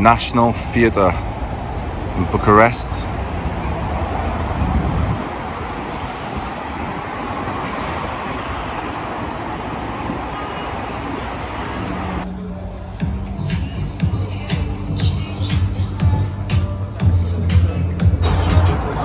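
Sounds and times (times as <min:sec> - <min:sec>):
city traffic roar: 0:00.0 - 0:19.0.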